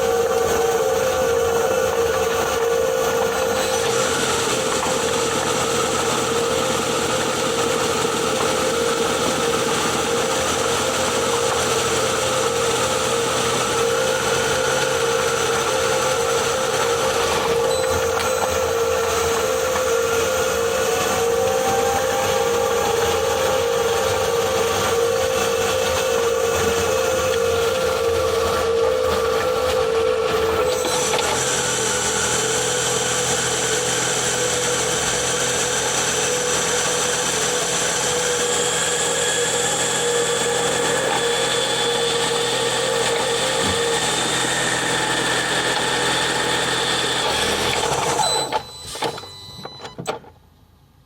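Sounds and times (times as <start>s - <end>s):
transmission whine: 0.0s - 50.4s.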